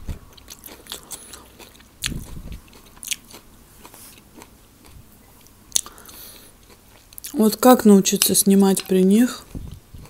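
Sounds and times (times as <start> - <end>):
person chewing food: 0.0 - 7.4, 8.2 - 10.0.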